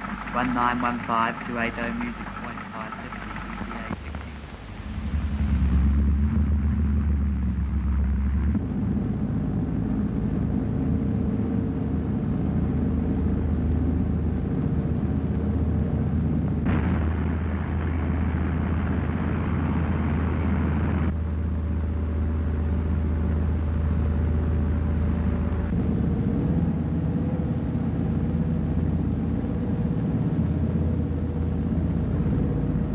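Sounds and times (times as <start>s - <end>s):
piston engines droning: 0.0s - 32.9s.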